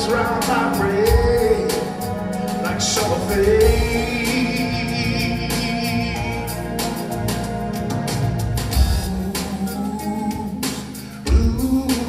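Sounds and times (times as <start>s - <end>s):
man singing: 0.0s - 7.3s, 8.7s - 12.0s
drums: 0.0s - 12.0s
electric keyboard: 0.0s - 12.0s.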